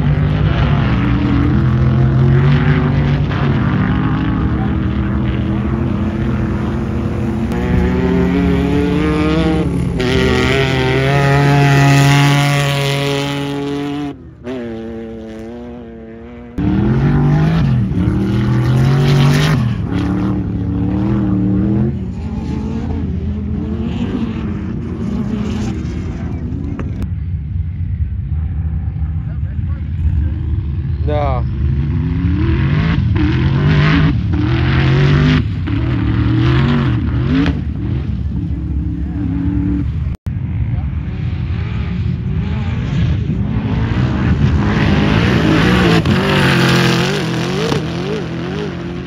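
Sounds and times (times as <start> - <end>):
drag car engines at full throttle: 0.0 - 49.0.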